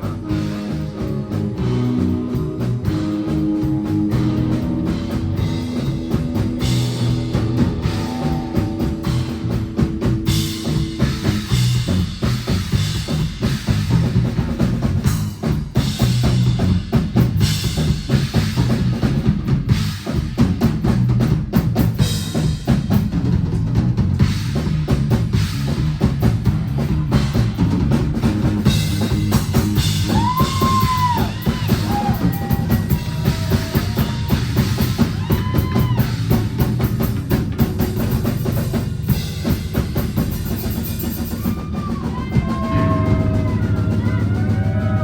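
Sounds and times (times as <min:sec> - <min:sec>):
guitar and bass notes ringing: 0:00.0 - 0:19.1, 0:24.2 - 0:41.3, 0:42.3 - 0:45.0
drums with kick snare and cymbals: 0:00.0 - 0:45.0
rock band playing instrumental: 0:00.0 - 0:45.0.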